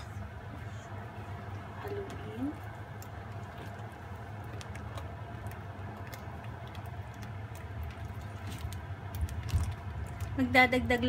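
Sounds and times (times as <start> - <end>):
steady low hum: 0.0 - 11.0
spoon stirring thick dessert: 0.2 - 11.0.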